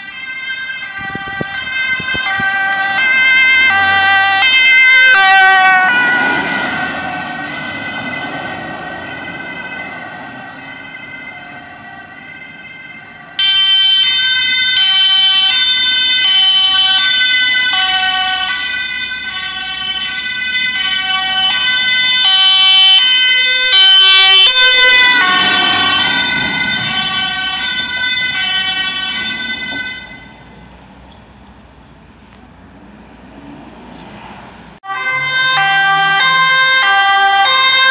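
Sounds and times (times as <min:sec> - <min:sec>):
two-tone ambulance siren: 0:00.0 - 0:30.7, 0:34.8 - 0:37.9
road noise: 0:00.0 - 0:37.9.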